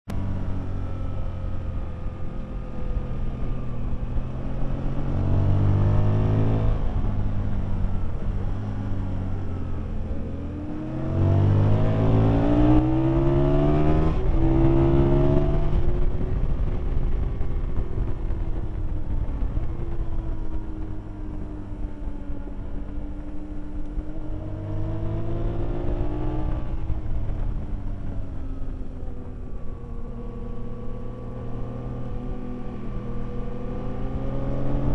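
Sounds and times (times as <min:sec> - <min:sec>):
motorcycle engine accelerating: 0:00.1 - 0:34.9
wind noise on microphone: 0:03.4 - 0:34.9.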